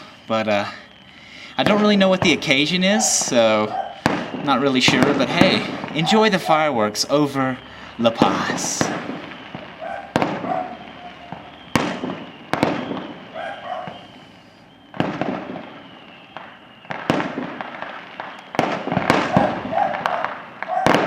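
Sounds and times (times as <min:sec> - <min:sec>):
fireworks exploding: 0:00.0 - 0:21.0.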